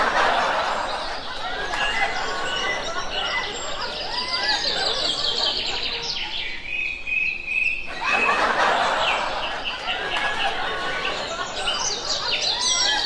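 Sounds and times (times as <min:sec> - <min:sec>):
small birds chirping: 0:00.4 - 0:07.9, 0:08.8 - 0:13.0.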